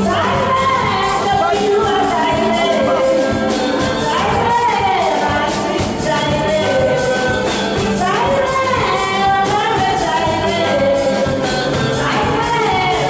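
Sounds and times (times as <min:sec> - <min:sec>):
music with percussion beat: 0:00.0 - 0:13.0
woman singing into a microphone: 0:00.0 - 0:13.0.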